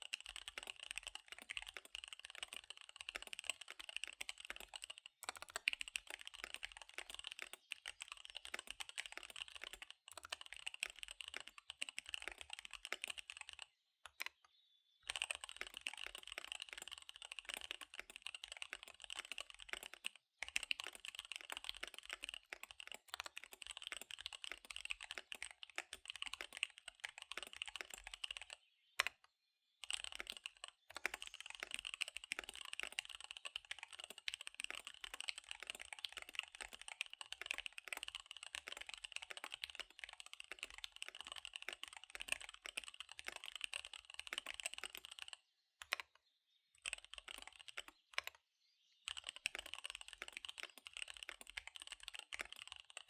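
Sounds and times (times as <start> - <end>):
mechanical keyboard typing: 0.0 - 14.4, 15.0 - 29.2, 29.8 - 46.1, 46.8 - 48.4, 49.1 - 53.0.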